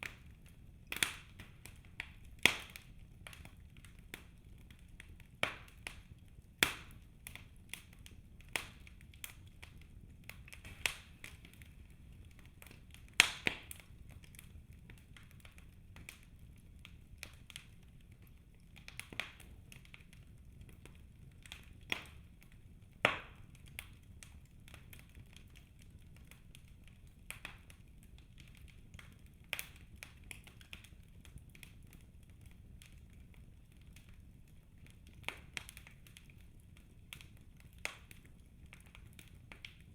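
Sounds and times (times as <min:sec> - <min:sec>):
faint steady hiss: 0:00.0 - 0:39.9
logs crackling in fireplace: 0:00.0 - 0:39.9.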